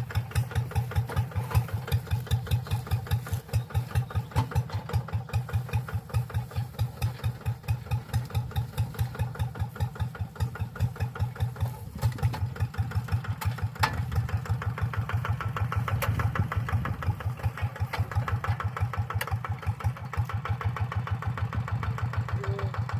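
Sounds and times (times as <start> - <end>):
diesel engine chugging: 0.0 - 22.9.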